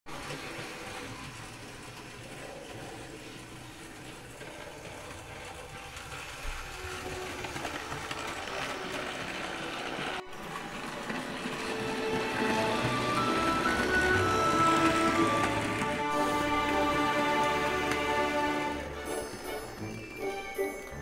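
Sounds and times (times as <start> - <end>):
model train running on track: 0.1 - 21.0.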